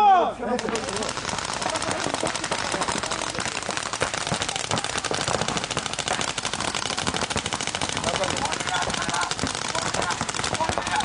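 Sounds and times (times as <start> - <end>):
paintball markers firing: 0.6 - 11.0.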